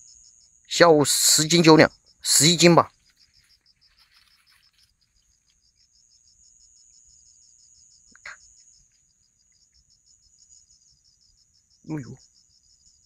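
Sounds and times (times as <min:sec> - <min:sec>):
cricket chirping: 0:00.0 - 0:13.0
high insect hum: 0:00.0 - 0:13.0.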